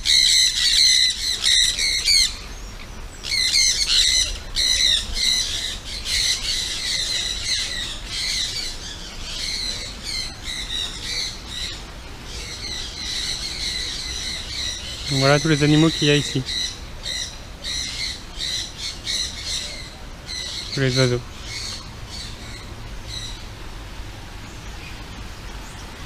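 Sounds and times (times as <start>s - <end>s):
parrots squawking: 0.0s - 2.5s, 3.2s - 23.5s.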